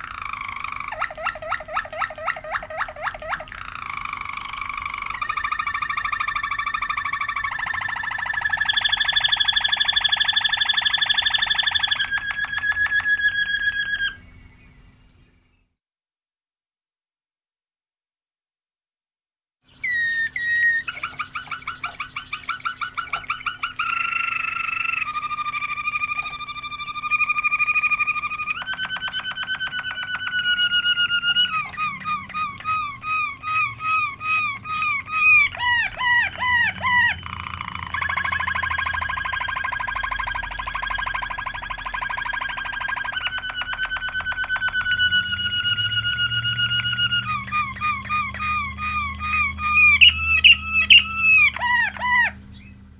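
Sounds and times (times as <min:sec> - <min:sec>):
canary singing trills: 0:00.0 - 0:15.7, 0:19.7 - 0:52.9.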